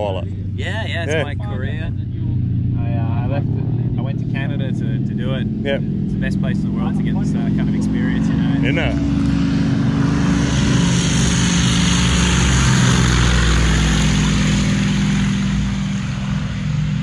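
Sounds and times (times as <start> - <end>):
propeller aircraft engine: 0.0 - 17.0.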